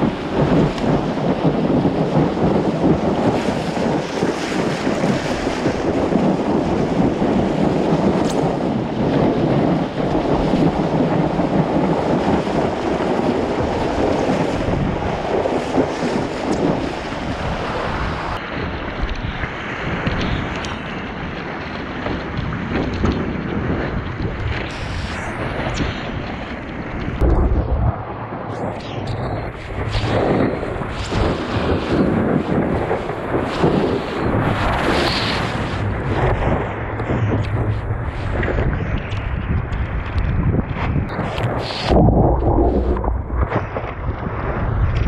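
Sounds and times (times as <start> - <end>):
whitewater rushing and splashing: 0.0 - 39.9
wind buffeting microphone: 0.0 - 45.0.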